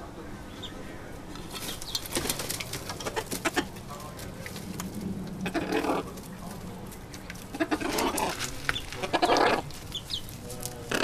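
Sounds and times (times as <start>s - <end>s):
chickens pecking clicks: 1.6s - 11.0s.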